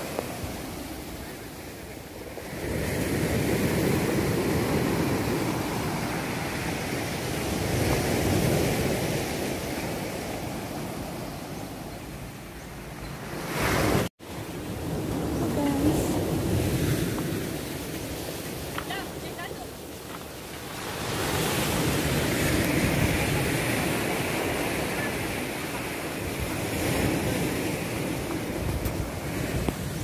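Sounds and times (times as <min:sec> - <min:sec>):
sea waves on rocky shore: 0:00.0 - 0:12.4, 0:13.2 - 0:30.0.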